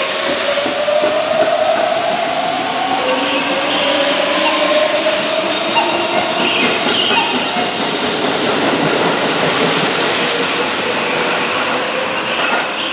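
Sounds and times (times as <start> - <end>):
train wheels rushing on rails: 0.0 - 12.9.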